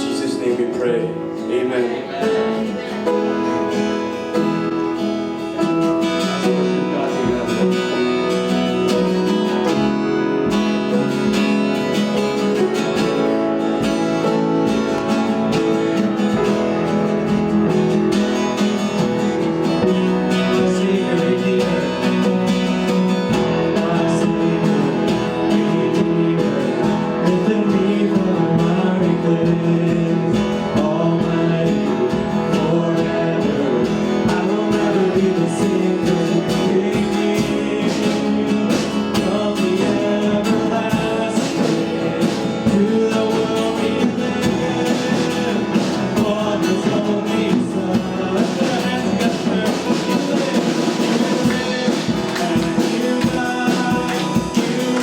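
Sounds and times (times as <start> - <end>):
acoustic guitar chords: 0.0 - 55.0.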